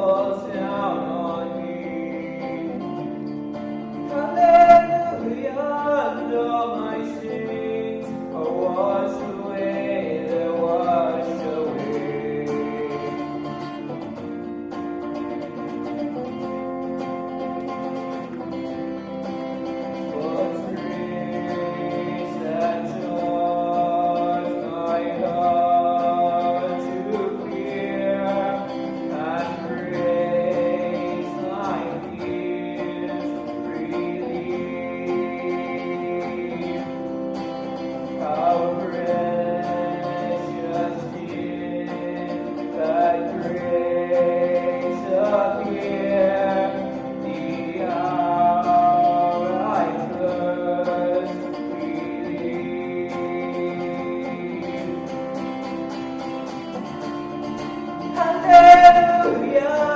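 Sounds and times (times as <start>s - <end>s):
man singing worship song: 0.0s - 2.8s, 4.1s - 13.5s, 20.1s - 37.1s, 38.2s - 55.3s, 58.2s - 59.9s
guitar accompaniment: 0.0s - 59.9s.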